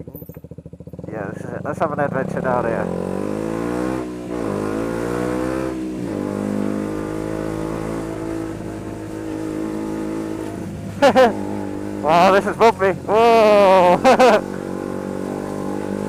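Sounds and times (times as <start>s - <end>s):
motorcycle engine pulling away: 0.0s - 16.0s.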